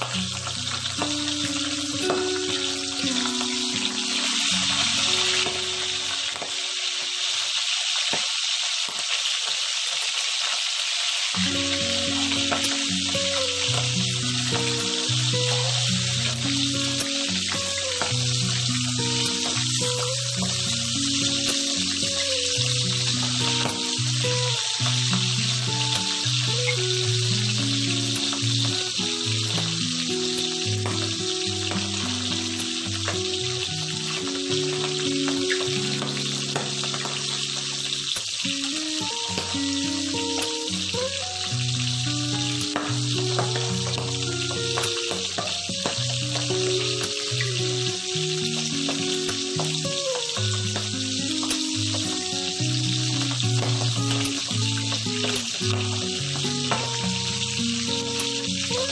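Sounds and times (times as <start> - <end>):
background music: 0.0 - 7.2, 11.4 - 58.9
fish sizzling in hot oil: 0.0 - 58.9.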